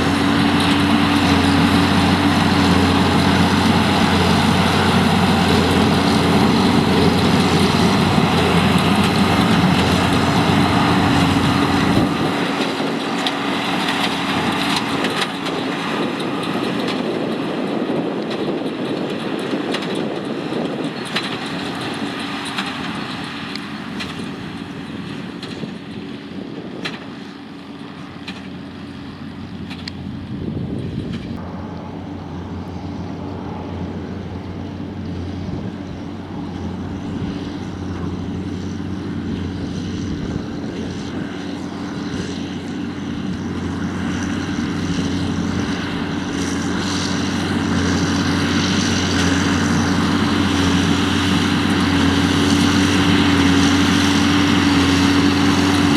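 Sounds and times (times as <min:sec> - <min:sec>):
diesel tractor engine droning: 0:00.0 - 0:55.9.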